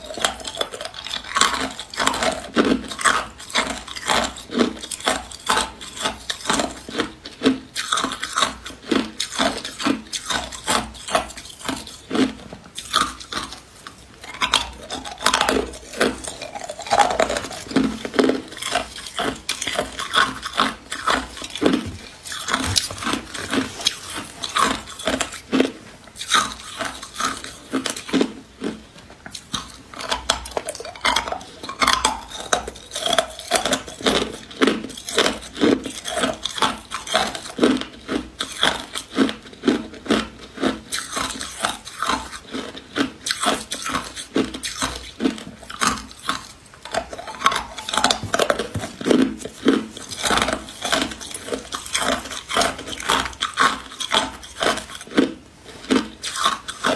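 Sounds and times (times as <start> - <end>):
ice crunching while chewed: 0.0 - 56.9.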